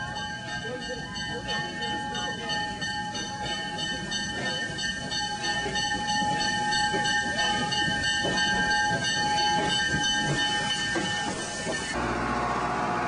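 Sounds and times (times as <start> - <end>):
train high whine: 0.0 - 13.0
train rumbling: 0.0 - 13.0.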